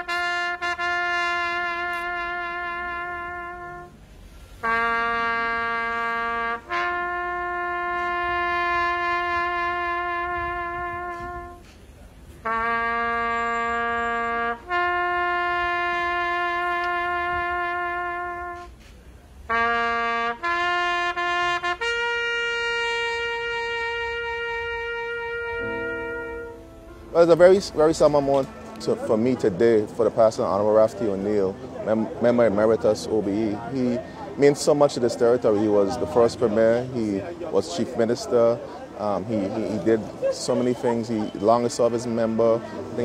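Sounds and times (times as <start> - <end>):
solo trumpet melody: 0.0 - 43.0.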